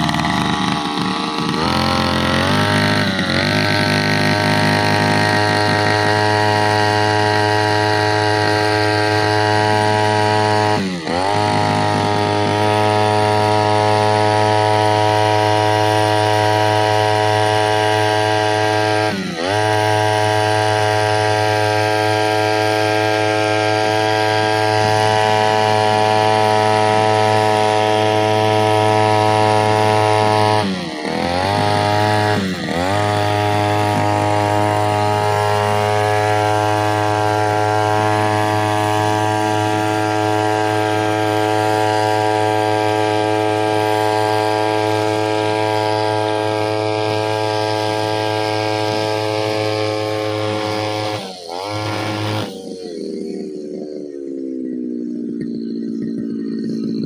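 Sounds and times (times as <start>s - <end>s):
brushcutter engine cutting grass: 0.0s - 57.0s.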